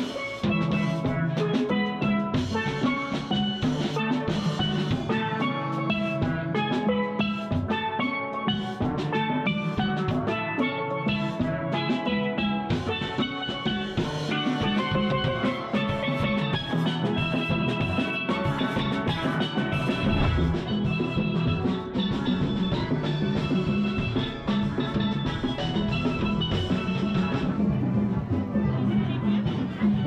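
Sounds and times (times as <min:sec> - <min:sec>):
steady drum beat: 0:00.0 - 0:11.8, 0:12.6 - 0:27.7
steel pans playing melody: 0:00.0 - 0:30.0.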